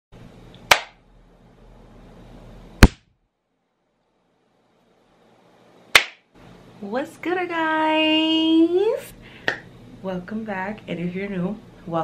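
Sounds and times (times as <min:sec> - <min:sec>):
faint room noise: 0:00.2 - 0:12.0.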